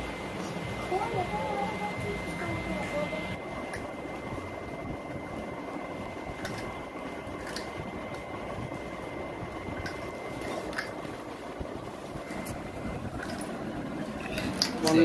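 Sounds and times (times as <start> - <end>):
room noise with thin high tone: 0.0 - 15.0.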